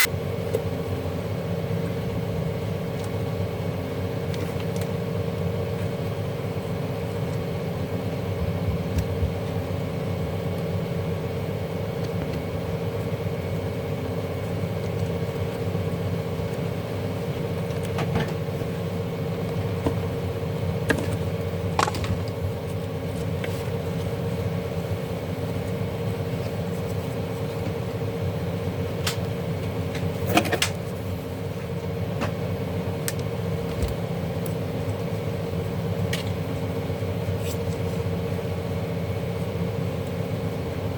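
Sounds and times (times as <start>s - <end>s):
steady background hum: 0.0s - 40.9s.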